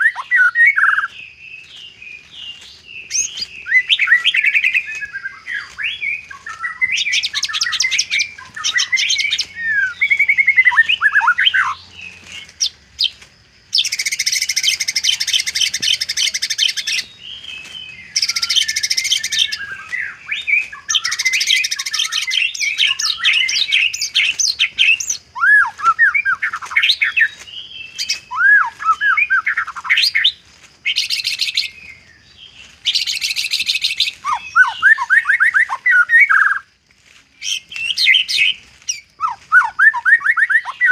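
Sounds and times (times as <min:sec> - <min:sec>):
bird singing whistles and trills: 0:00.0 - 0:36.7, 0:37.4 - 0:40.9.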